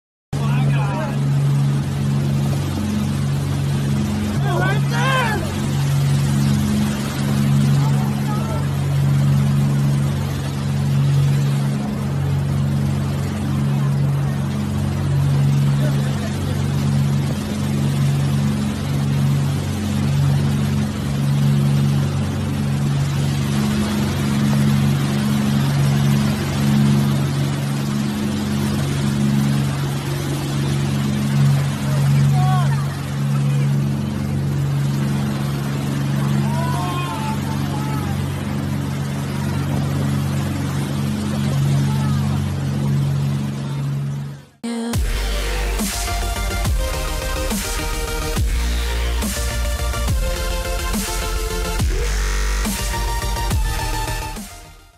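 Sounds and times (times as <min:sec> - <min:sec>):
speedboat engine drone: 0:00.3 - 0:54.9
wind: 0:00.3 - 0:54.9
wake rushing: 0:00.4 - 0:54.8.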